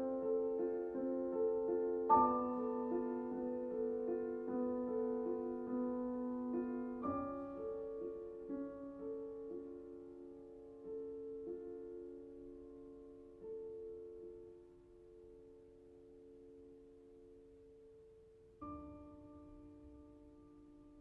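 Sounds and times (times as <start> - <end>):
soft solo piano chords: 0.0 - 21.0.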